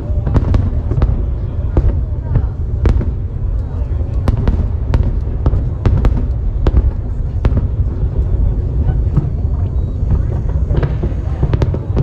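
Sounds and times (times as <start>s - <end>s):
fireworks cracks and bangs: 0.0s - 12.0s
low rumble of explosions: 0.0s - 12.0s.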